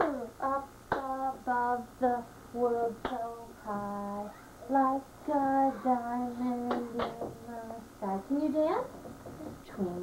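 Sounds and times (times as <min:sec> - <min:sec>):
woman and child singing: 0:00.0 - 0:08.9.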